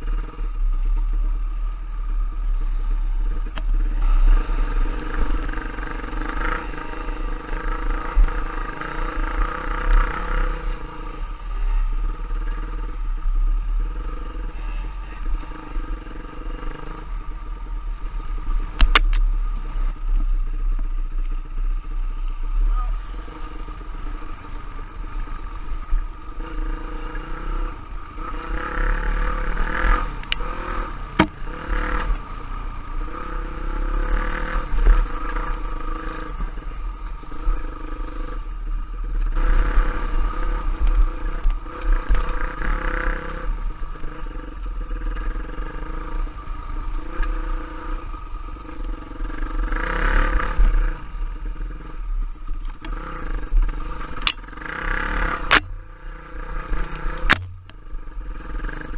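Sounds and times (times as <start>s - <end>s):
trail bike engine revving: 0.0s - 58.9s.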